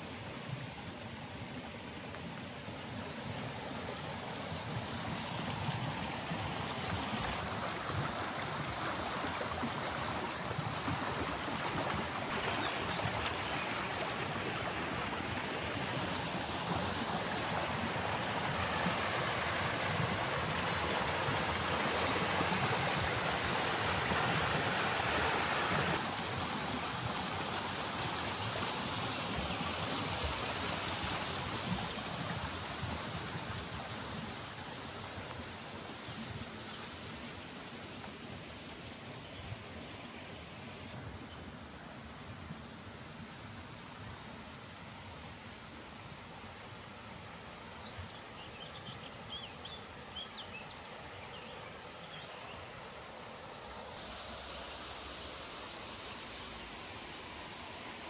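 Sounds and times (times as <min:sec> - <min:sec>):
brook water rushing over stones: 0:00.0 - 0:58.0.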